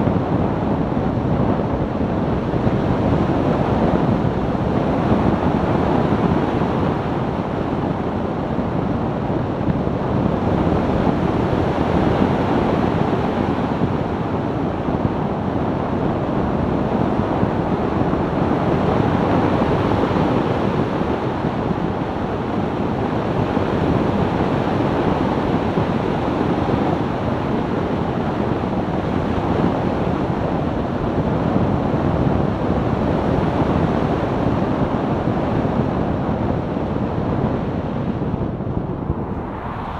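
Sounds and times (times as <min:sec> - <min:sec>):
wind and road noise: 0:00.0 - 0:39.9
wind buffeting microphone: 0:00.0 - 0:39.9.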